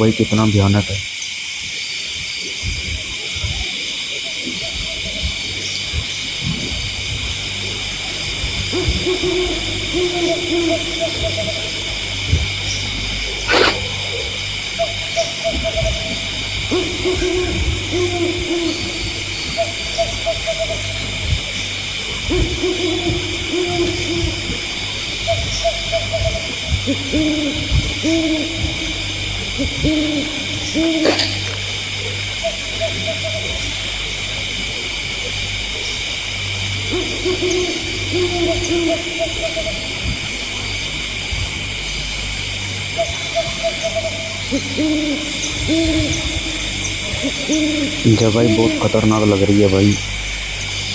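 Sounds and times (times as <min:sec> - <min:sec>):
steady high hiss: 0:00.0 - 0:50.9
low hum: 0:04.5 - 0:50.9
owl hooting: 0:07.2 - 0:50.9
high-pitched drone: 0:07.3 - 0:42.3, 0:43.0 - 0:50.9.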